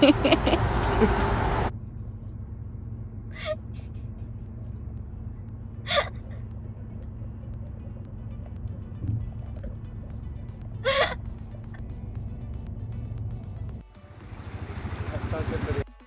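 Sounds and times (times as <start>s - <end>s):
vehicle engine idling: 0.0s - 15.9s.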